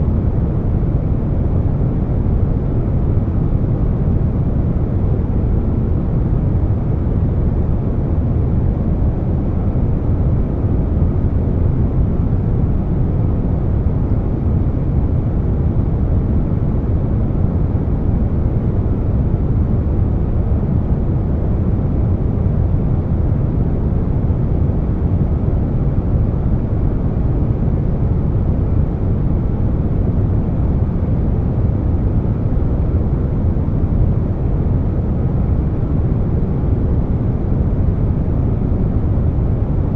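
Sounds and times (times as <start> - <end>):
air conditioner running: 0.0 - 39.9.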